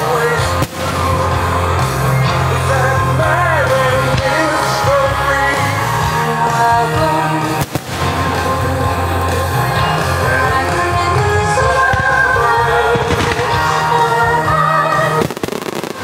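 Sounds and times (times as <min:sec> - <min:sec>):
person singing: 0:00.0 - 0:16.0
steady bass line: 0:00.0 - 0:16.0.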